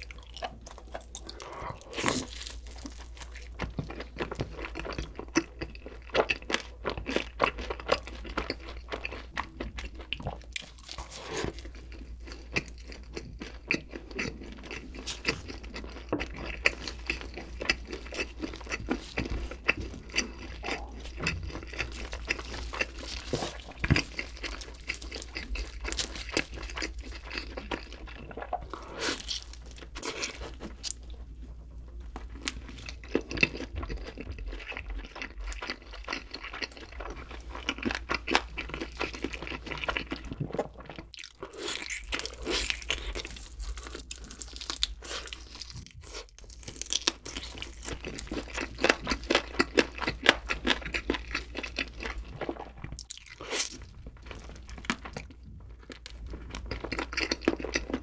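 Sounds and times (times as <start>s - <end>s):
biting and chewing chicken wings: 0.0s - 31.4s, 32.1s - 58.0s.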